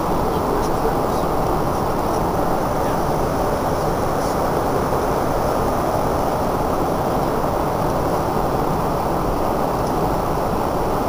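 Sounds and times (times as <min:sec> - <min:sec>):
jet airliner cabin roar: 0:00.0 - 0:11.0.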